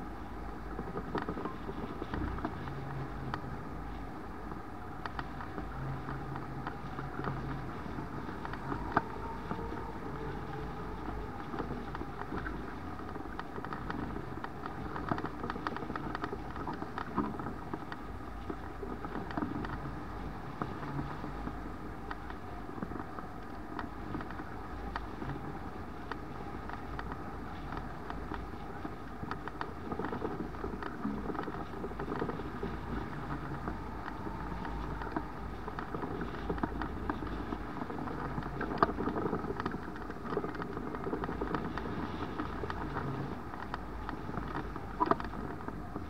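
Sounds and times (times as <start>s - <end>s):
small clicks and rattles: 0.0s - 46.0s
wind noise on microphone: 0.0s - 46.0s.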